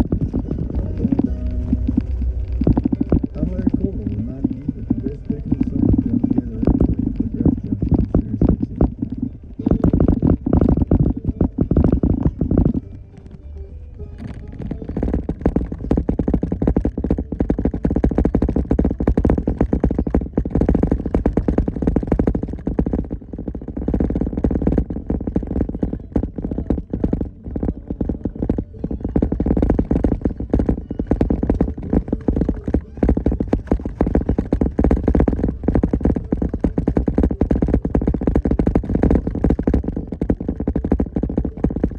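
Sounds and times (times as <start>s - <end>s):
music playing: 0.0s - 41.9s
vehicle rumbling on rough trail: 0.0s - 41.9s.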